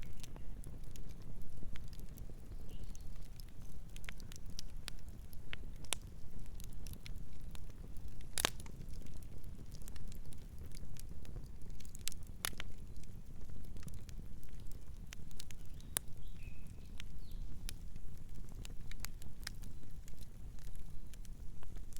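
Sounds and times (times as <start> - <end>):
campfire crackling: 0.0 - 21.9
rumble of flame: 0.0 - 21.9.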